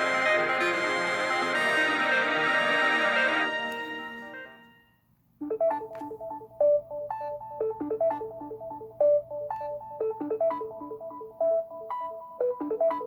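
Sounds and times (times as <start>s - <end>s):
phone ringtone melody: 0.0s - 13.0s
ringtone tail: 0.0s - 13.0s.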